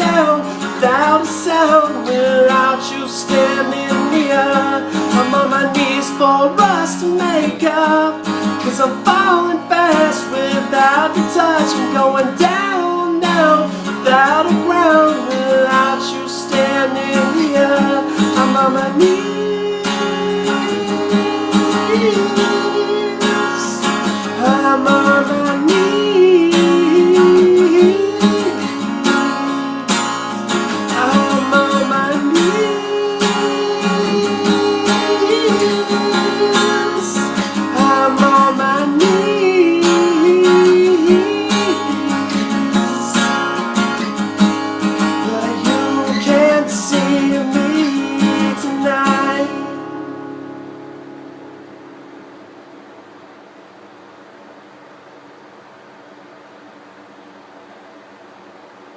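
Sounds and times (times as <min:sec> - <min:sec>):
acoustic guitar strumming: 0:00.0 - 0:56.1.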